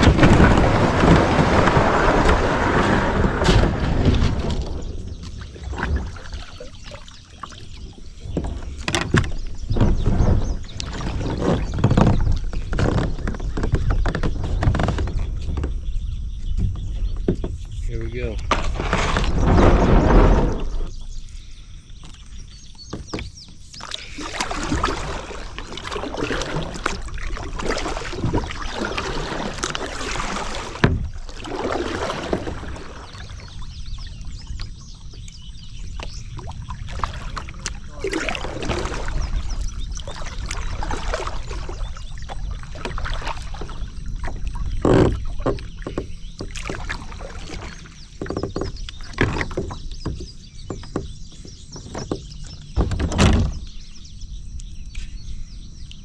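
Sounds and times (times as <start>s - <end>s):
paddle splashing: 0.0s - 16.0s, 17.2s - 53.8s
water sloshing against hull: 0.0s - 56.0s.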